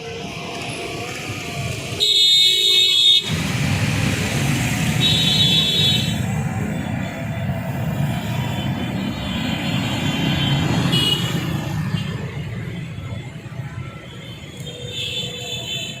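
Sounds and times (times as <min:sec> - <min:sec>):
heavy vehicles rumbling: 0:00.0 - 0:16.0.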